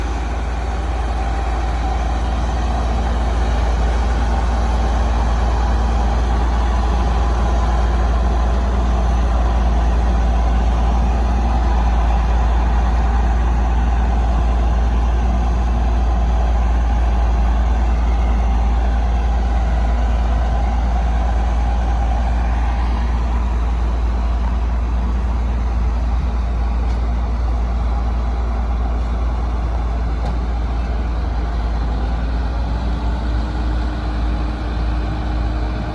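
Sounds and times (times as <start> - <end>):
diesel earthmoving machinery rumbling: 0.0 - 35.9.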